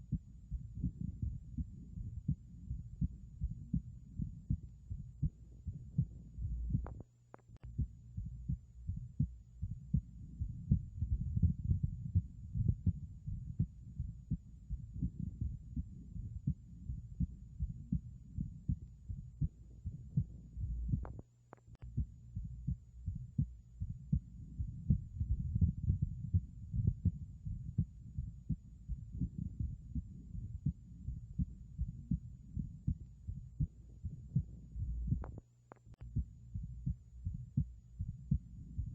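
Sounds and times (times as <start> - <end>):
low heartbeats through stethoscope: 0.0 - 38.9.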